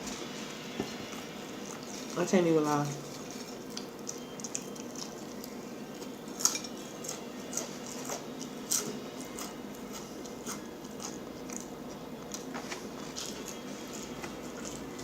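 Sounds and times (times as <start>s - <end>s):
person chewing food: 0.0s - 2.2s, 3.0s - 15.0s
faint steady hum: 0.0s - 15.0s.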